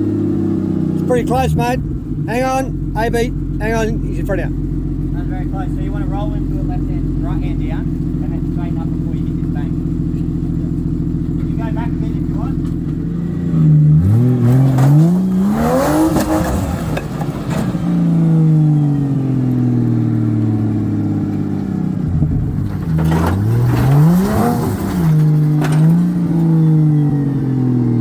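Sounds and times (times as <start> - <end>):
engine idling and revving: 0.0 - 28.0.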